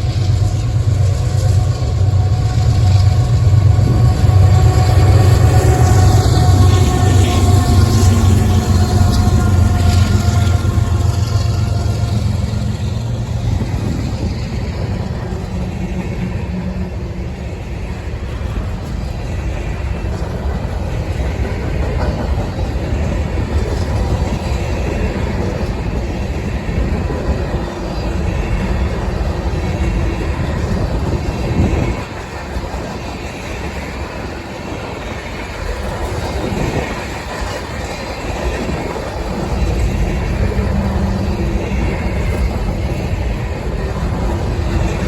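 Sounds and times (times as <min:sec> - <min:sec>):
locomotive engine drone: 0:00.0 - 0:45.0
freight cars clattering on rails: 0:03.2 - 0:45.0.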